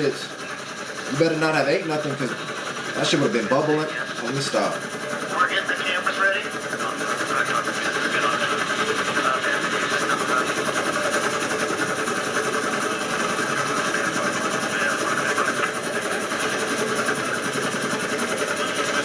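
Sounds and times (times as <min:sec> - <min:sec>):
helicopter rotor chop: 0:00.0 - 0:19.0.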